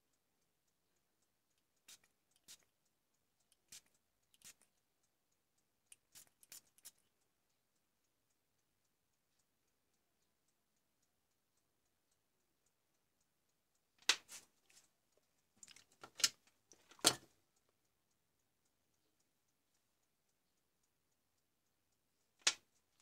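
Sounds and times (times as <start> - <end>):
faint steady ticking: 0.0 - 23.0.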